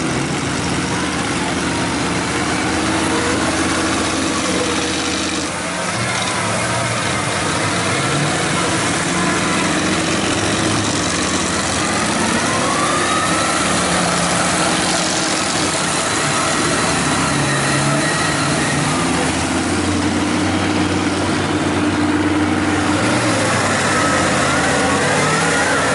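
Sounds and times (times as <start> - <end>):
diesel truck engine revving: 0.0 - 25.9.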